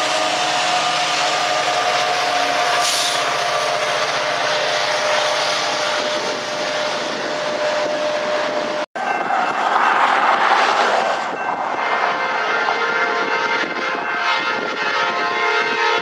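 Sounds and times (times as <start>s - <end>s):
wheel and rail noise: 0.0s - 14.5s
locomotive engine whine: 0.0s - 16.0s.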